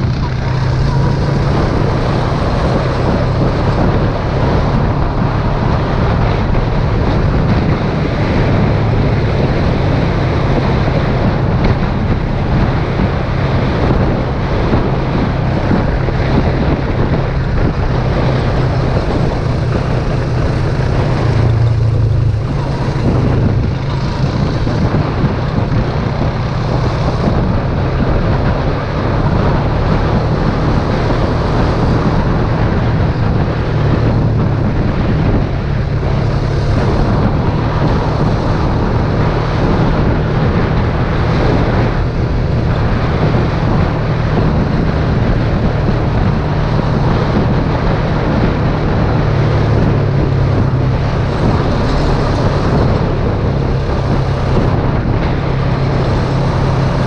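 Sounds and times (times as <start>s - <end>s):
atv engine running: 0.0s - 57.0s
wind noise on microphone: 0.0s - 57.0s.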